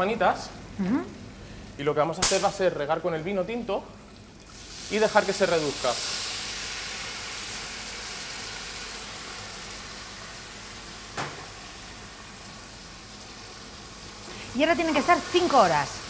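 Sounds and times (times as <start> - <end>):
wine sizzling in hot pot: 1.1 - 16.0.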